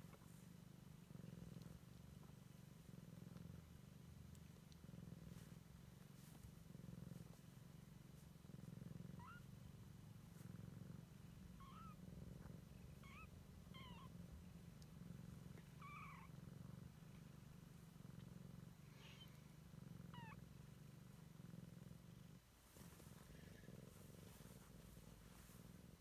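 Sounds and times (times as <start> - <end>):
cat purring faintly: 0.0 - 26.0.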